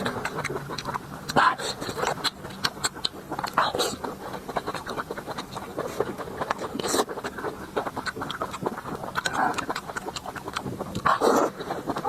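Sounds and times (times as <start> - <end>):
chewing with mouth smacks: 0.0 - 12.0.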